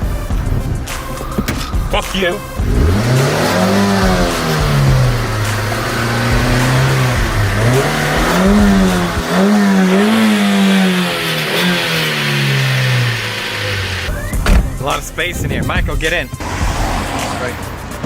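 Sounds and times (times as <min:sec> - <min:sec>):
car engine revving: 0:00.0 - 0:14.8, 0:16.2 - 0:18.0.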